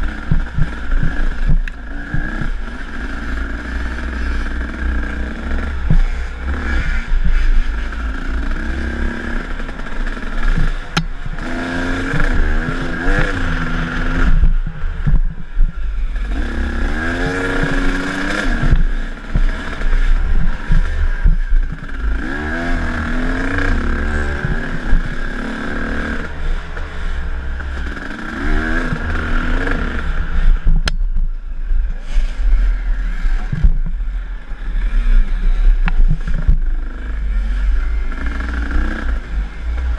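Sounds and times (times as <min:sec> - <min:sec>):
dirt bike engine revving: 0:00.0 - 0:31.0, 0:31.6 - 0:39.9
wind rumble on microphone: 0:00.0 - 0:39.9.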